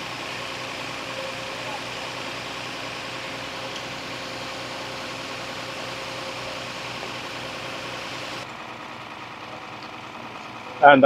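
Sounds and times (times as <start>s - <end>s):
truck engine hum: 0.0s - 11.0s.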